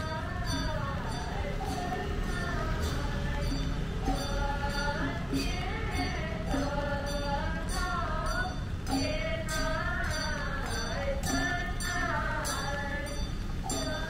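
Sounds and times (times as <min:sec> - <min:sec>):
bell-like percussion strikes: 0:00.0 - 0:14.0
voices chanting melodically: 0:00.0 - 0:14.0.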